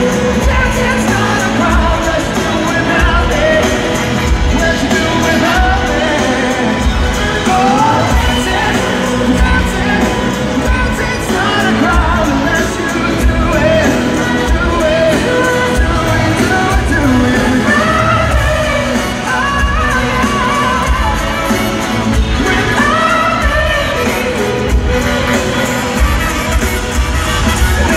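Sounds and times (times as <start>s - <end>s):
brass section: 0.0s - 27.9s
drums: 0.0s - 27.9s
lead vocal singing: 0.0s - 27.9s
live pop-rock band playing: 0.0s - 27.9s.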